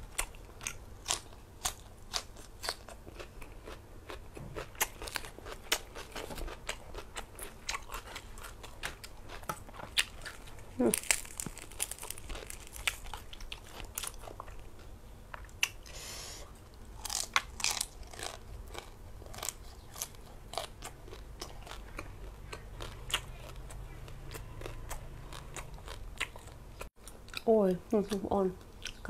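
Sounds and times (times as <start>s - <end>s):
crunching and chewing: 0.0s - 15.9s, 16.6s - 27.5s, 28.1s - 29.0s.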